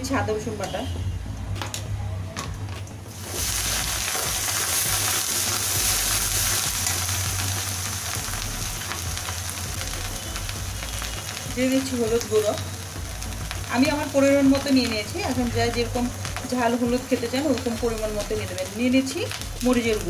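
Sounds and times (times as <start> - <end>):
paste sizzling in hot oil: 3.1 - 20.0.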